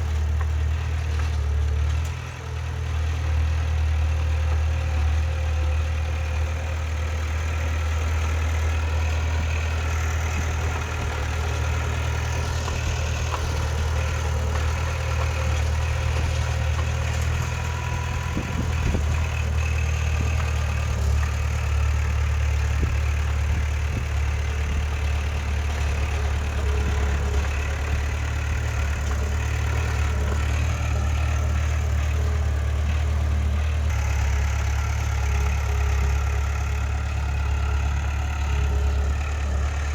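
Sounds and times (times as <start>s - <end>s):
heavy machinery diesel engine droning: 0.0s - 39.9s.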